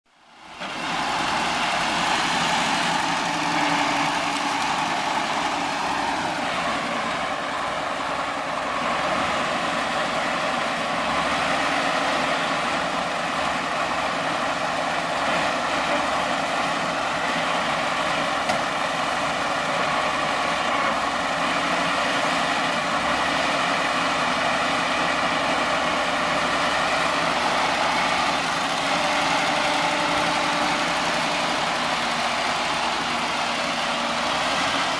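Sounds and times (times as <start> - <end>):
engine running: 0.1 - 34.9.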